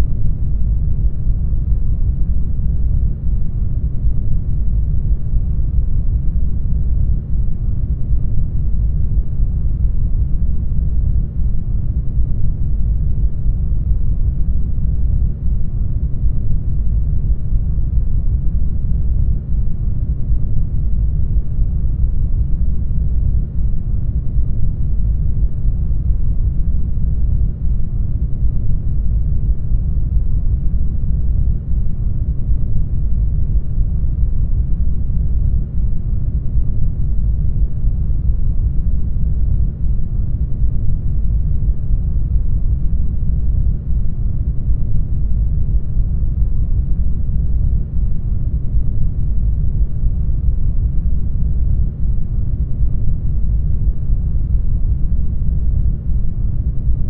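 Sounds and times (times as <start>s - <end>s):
deep muffled rumble: 0.0s - 57.0s.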